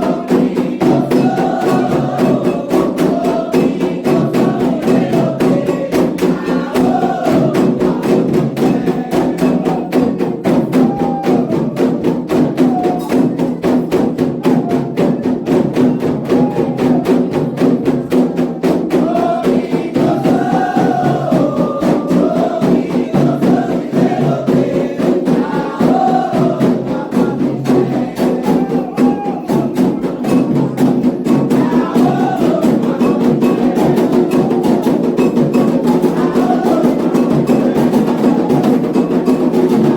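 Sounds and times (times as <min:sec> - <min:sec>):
group singing: 0:00.0 - 0:39.9
hand drums playing: 0:00.0 - 0:39.9.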